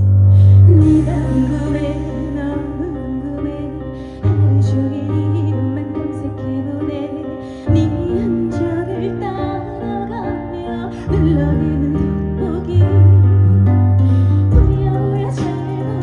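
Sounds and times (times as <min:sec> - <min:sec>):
amplified accompaniment with bass: 0:00.0 - 0:16.0
woman singing with vibrato: 0:00.6 - 0:13.4, 0:14.5 - 0:16.0.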